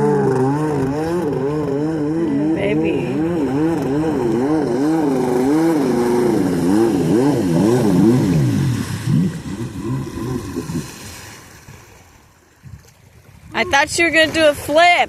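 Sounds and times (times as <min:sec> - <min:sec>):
watercraft engine revving: 0:00.0 - 0:12.4.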